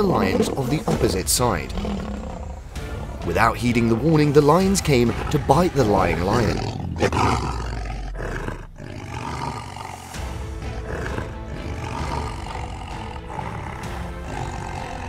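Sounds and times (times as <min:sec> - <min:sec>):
lions roaring: 0:00.0 - 0:03.2, 0:04.8 - 0:15.0
background music: 0:00.0 - 0:15.0.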